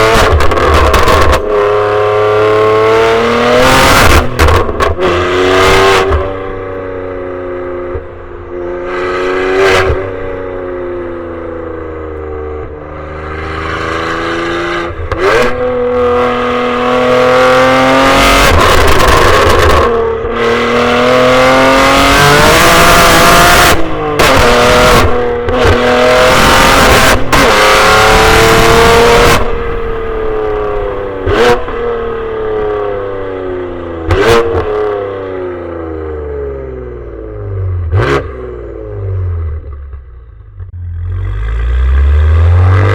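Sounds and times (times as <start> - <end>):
loud car exhaust revving: 0.0 - 42.9.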